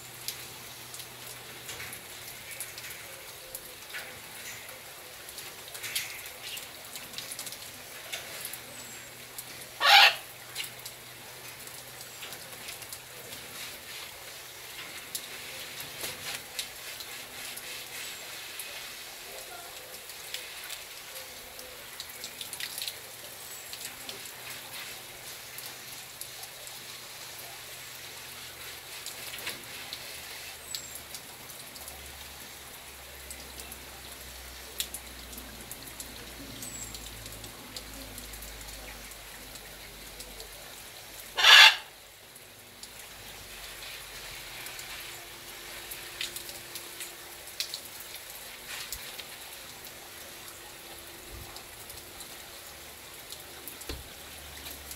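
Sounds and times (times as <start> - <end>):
water spraying on wire mesh: 0.0 - 54.9.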